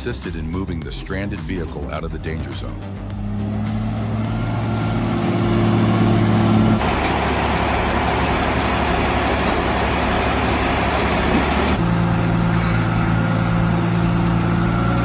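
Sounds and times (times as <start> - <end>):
heavy vehicle engine running: 2.8 - 15.0.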